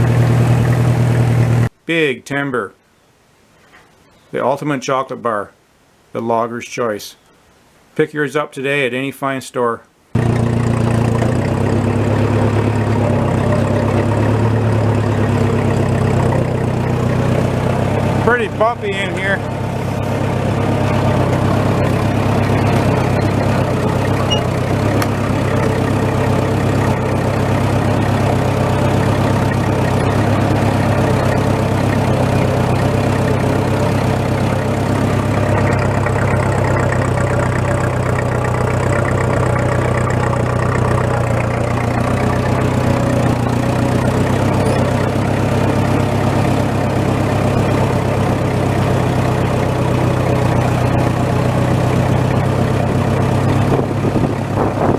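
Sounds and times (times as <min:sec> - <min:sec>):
tractor engine running: 0:00.0 - 0:01.8, 0:10.2 - 0:54.9.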